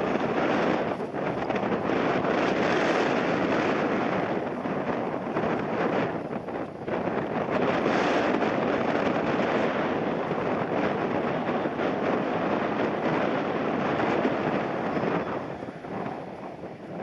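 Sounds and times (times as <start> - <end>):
airliner jet engine landing: 0.0 - 17.0
wind buffeting microphone: 0.0 - 17.0.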